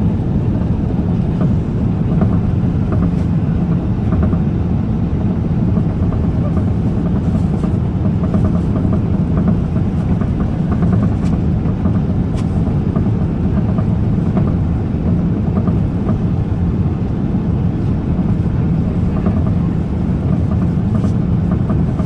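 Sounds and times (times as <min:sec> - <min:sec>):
vehicle low rumble: 0:00.0 - 0:22.0.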